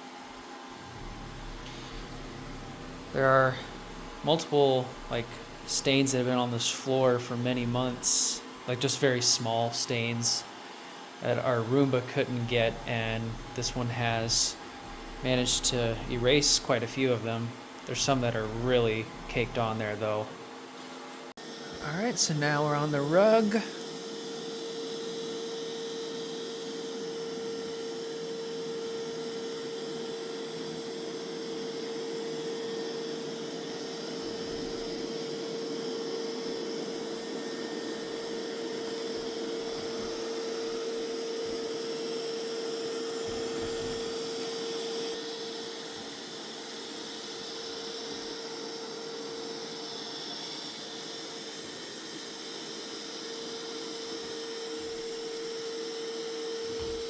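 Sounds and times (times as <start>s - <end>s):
robot vacuum running: 0.0s - 57.0s.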